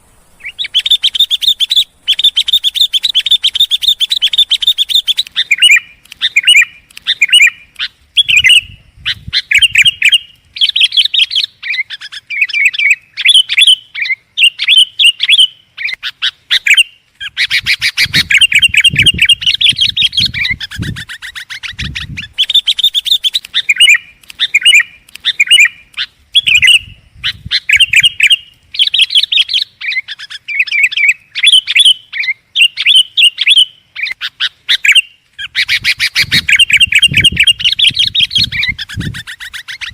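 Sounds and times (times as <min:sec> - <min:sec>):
bird singing bubbly chirps: 0:00.0 - 0:39.9.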